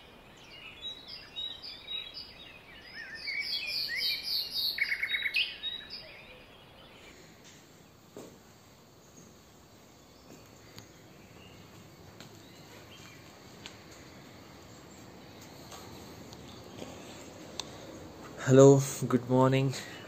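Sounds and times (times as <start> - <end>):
faint chirping birds or insects: 0.0 - 20.0.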